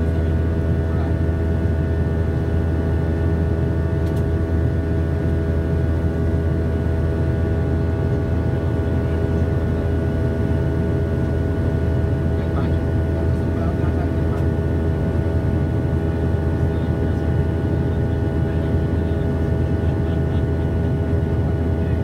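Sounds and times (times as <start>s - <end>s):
jet engine drone: 0.0s - 22.0s.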